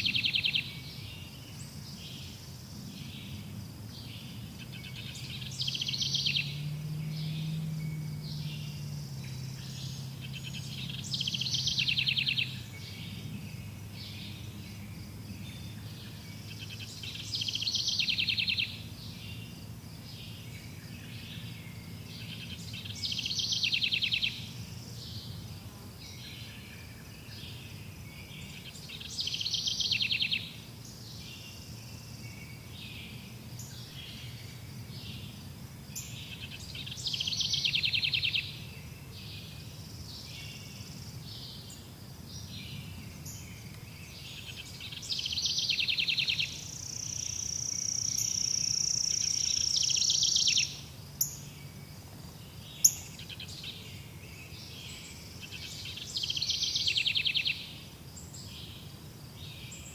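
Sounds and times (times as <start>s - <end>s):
birds chirping: 0.0s - 26.6s, 27.2s - 59.9s
insects chirping: 0.0s - 59.9s.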